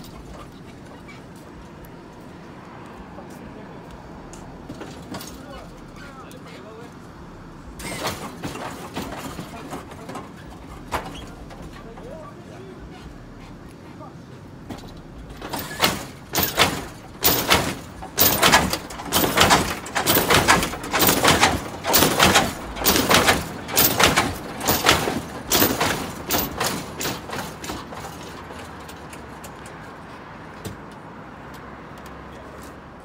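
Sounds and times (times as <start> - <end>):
car suspension clunking and banging: 0.0 - 2.6, 4.2 - 31.6.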